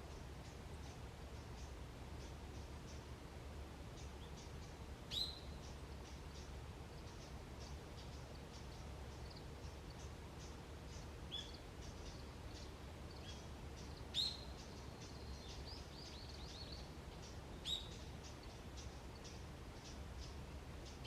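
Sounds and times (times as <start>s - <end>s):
birds chirping: 3.9s - 21.0s.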